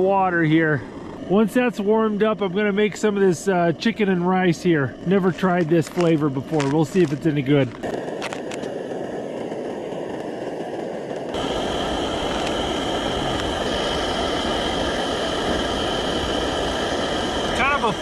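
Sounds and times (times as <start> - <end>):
gas stove burner hissing: 0.0 - 18.0
thin steady whine: 0.0 - 18.0.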